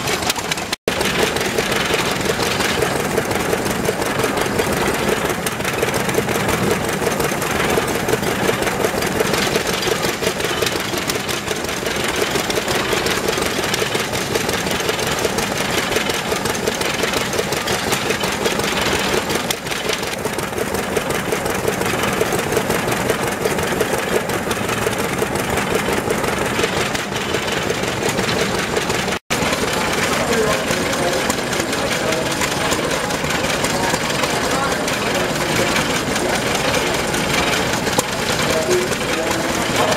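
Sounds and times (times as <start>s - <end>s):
stationary engines running: 0.0s - 39.9s.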